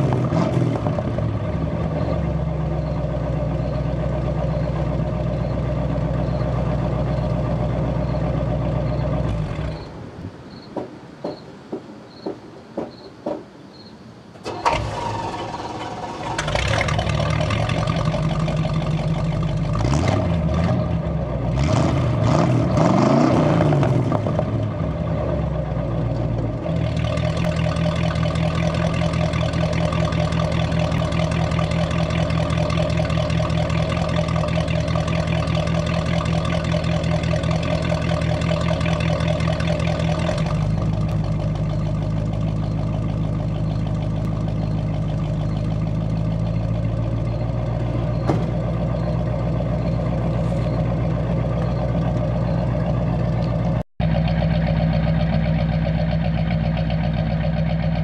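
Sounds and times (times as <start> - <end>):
car engine starting and idling: 0.0 - 10.7, 13.8 - 58.0.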